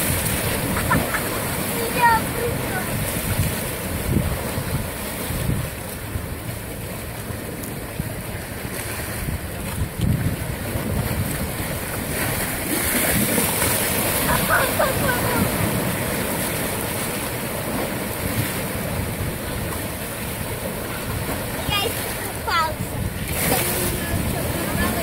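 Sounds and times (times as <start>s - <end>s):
wind buffeting microphone: 0.0s - 6.8s, 8.0s - 25.0s
waves splashing on rocks: 0.0s - 25.0s.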